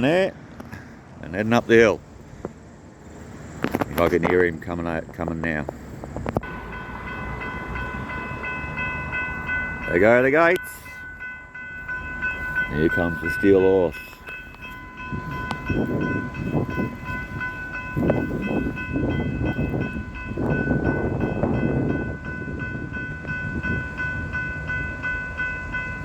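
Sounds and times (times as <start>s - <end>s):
diesel freight train rumbling: 0.0s - 26.0s
crossing warning bells ringing: 3.6s - 26.0s.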